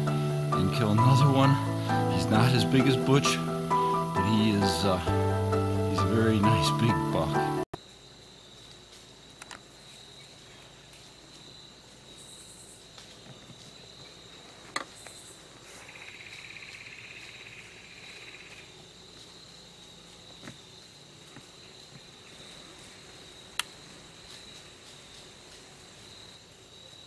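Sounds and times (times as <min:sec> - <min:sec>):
high insect whine: 0:00.0 - 0:27.0
pulsing insect trill: 0:00.0 - 0:27.0.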